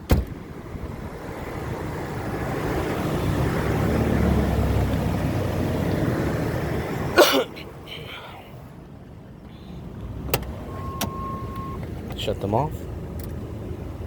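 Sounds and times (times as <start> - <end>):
road vehicle passing by: 0.4 - 14.0.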